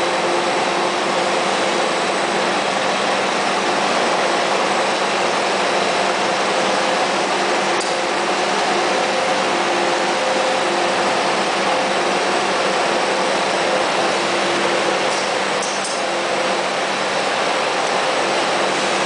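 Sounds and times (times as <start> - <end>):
molding machine humming: 0.0 - 19.0.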